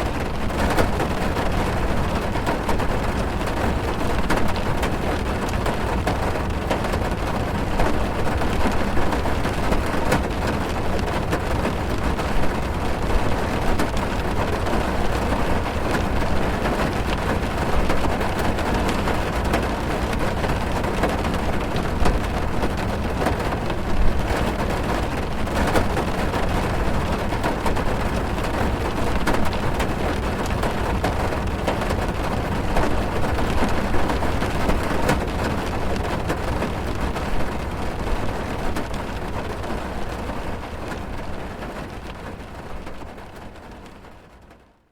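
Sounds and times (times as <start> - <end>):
heavy rain on a car roof: 0.0 - 44.9.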